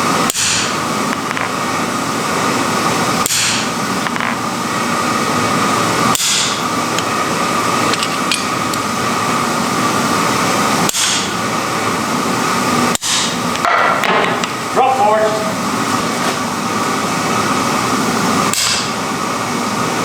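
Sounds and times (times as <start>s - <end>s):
workshop roar: 0.1s - 20.0s.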